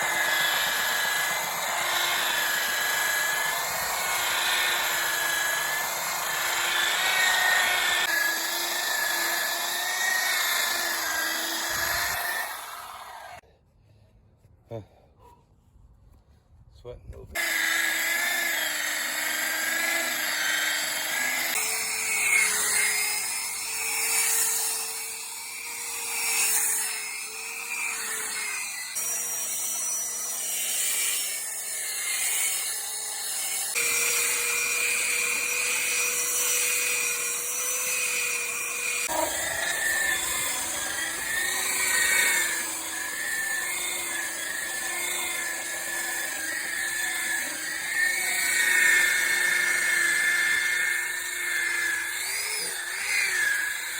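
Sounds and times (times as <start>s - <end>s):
power tool whining on wood: 0.0s - 13.4s, 17.4s - 53.9s.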